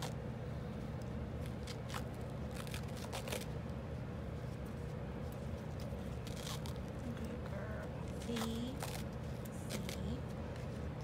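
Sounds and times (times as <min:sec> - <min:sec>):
bandage wrap rustling and tearing: 0:00.0 - 0:11.0
steady low hum: 0:00.0 - 0:11.0.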